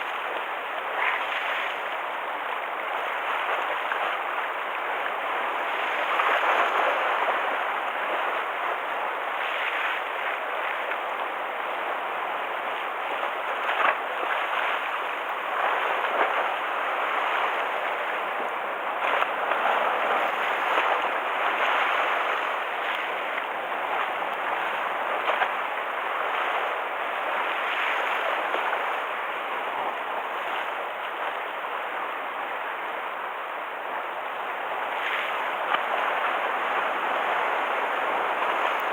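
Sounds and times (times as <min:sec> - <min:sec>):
sea waves splashing on shore: 0:00.0 - 0:38.9.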